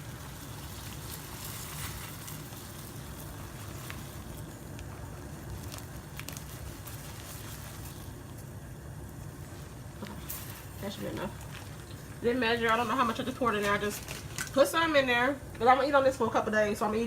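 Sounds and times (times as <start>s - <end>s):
rice poured into water: 0.0s - 14.6s
water boiling in a pot: 0.0s - 17.0s.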